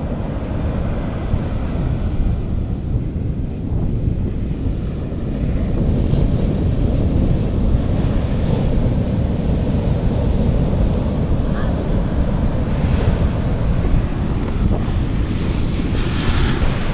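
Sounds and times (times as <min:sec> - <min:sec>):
sea waves washing onto beach: 0:00.0 - 0:16.9
wind noise on microphone: 0:00.0 - 0:16.9.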